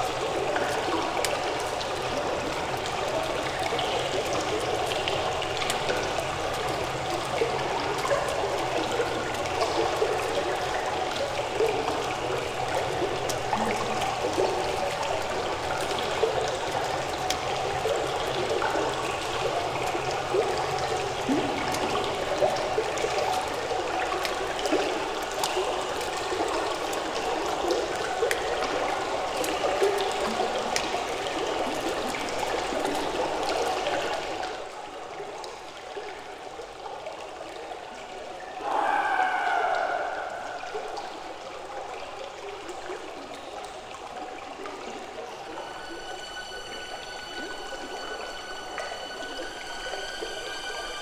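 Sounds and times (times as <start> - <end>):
small water splashes: 0.0 - 50.4
running water rushing: 0.0 - 51.0.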